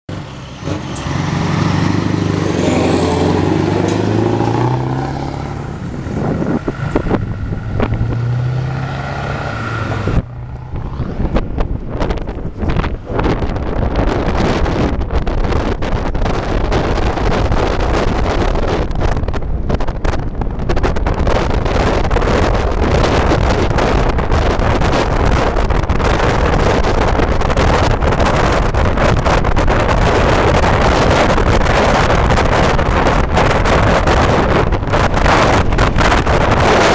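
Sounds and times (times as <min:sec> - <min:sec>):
road and vehicle noise: 0:00.1 - 0:36.9
wind buffeting microphone: 0:00.1 - 0:36.9.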